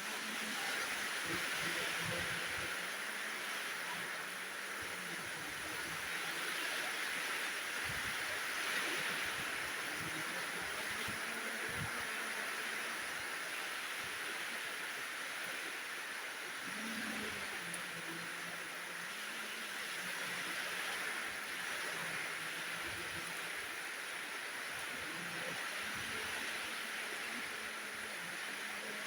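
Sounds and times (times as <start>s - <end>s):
heavy rain hiss: 0.0s - 29.0s.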